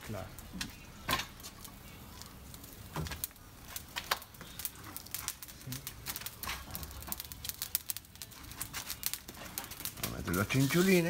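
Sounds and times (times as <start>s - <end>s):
fire embers crackling: 0.0s - 11.0s.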